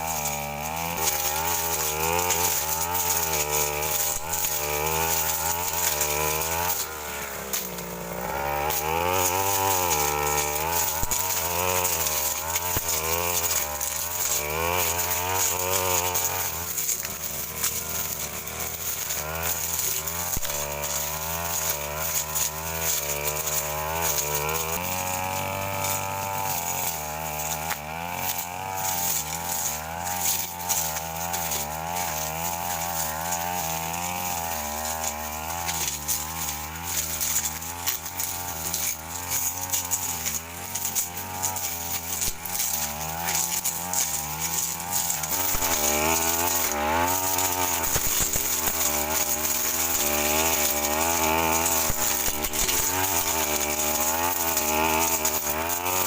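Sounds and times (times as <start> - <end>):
brush cutter engine revving: 0.0 - 56.0.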